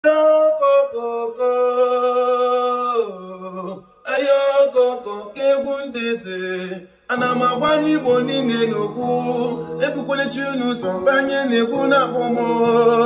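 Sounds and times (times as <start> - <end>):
men singing unaccompanied: 0.3 - 13.0.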